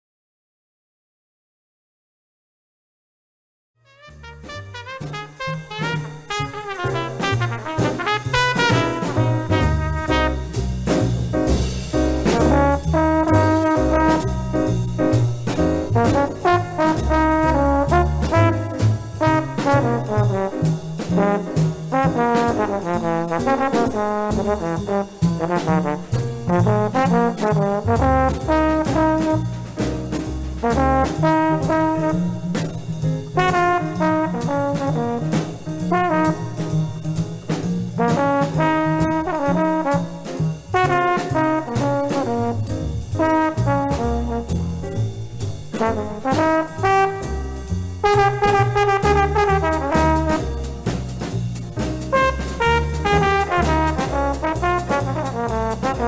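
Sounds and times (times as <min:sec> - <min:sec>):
piano: 0:03.8 - 0:56.0
jazz trombone soloing: 0:03.9 - 0:56.0
drums: 0:04.1 - 0:56.0
walking bass: 0:04.2 - 0:56.0.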